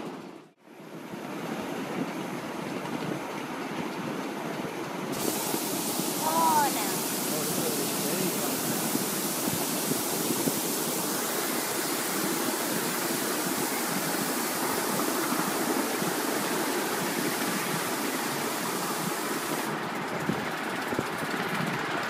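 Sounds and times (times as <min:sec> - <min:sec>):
wind: 0:00.0 - 0:22.0
miniature train cars rolling on track: 0:01.5 - 0:22.0.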